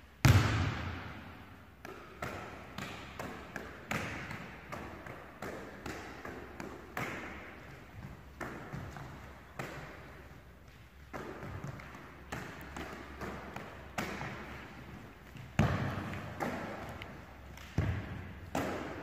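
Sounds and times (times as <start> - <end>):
ball slapping hands: 1.8 - 19.0.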